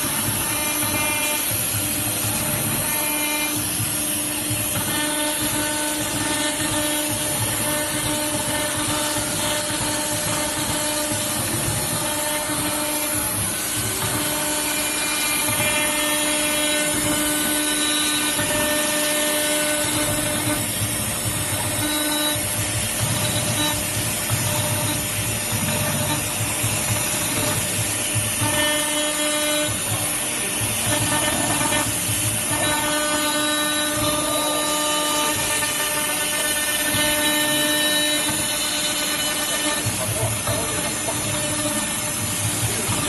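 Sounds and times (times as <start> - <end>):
pitched cutting tones: 0.0 - 43.0
router milling metal: 0.0 - 43.0.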